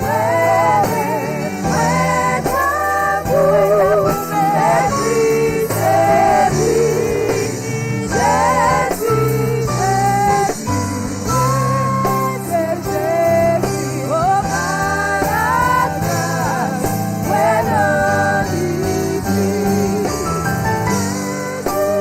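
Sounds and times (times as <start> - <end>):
person singing worship song: 0.0 - 20.3, 21.0 - 22.0
steady bass: 0.0 - 22.0.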